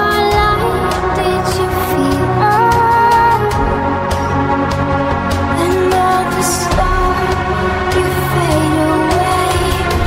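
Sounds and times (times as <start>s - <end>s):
melody over steady bass: 0.0s - 10.0s.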